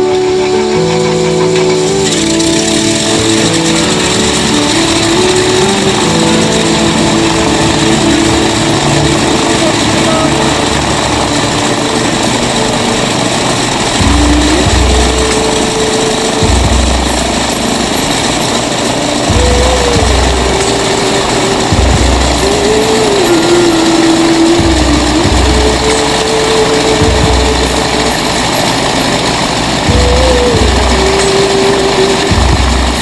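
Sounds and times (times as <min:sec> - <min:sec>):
biplane radial engine running: 0:00.0 - 0:33.0
heavy low throb: 0:00.0 - 0:33.0.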